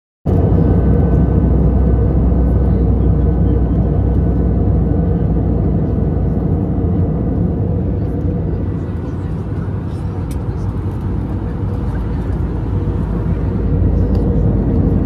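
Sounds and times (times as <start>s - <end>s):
airplane cabin rumble: 0.3s - 15.0s.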